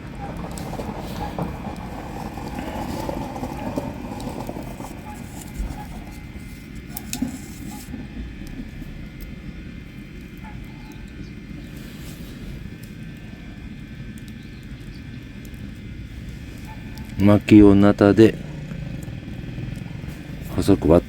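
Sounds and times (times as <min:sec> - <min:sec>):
campfire crackling: 0:00.0 - 0:21.0
low outdoor rumble: 0:00.0 - 0:21.0.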